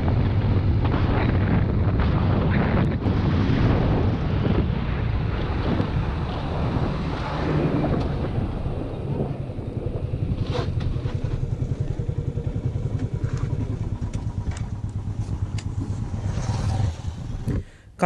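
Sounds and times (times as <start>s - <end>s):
motorcycle engine throbbing: 0.0s - 17.8s
wind on microphone: 0.0s - 17.8s.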